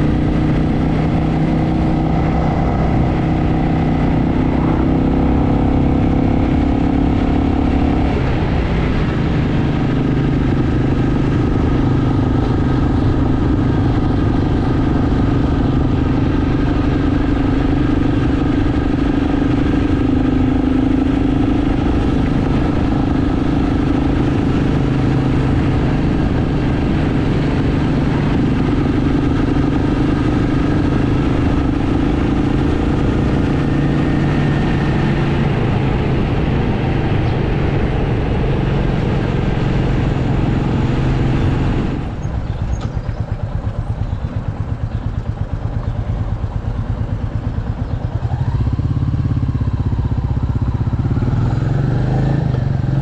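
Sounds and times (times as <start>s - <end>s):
wind rush over microphone: 0.0s - 43.8s
motorcycle engine running: 0.0s - 53.0s.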